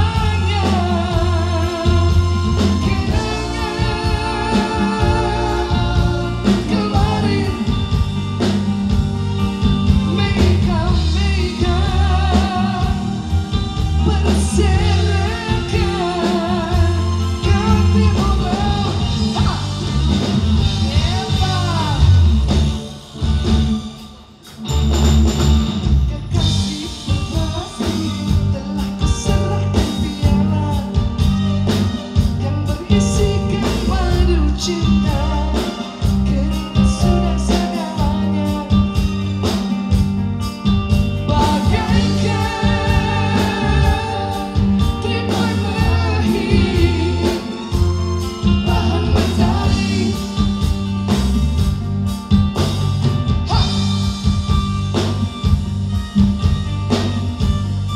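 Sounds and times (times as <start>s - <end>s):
drum kit: 0.0s - 57.9s
electric guitar: 0.0s - 57.9s
keyboard: 0.0s - 57.9s.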